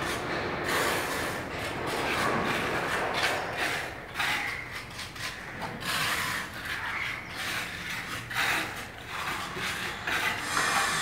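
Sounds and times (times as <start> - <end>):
scraping and rasping: 0.0 - 11.0.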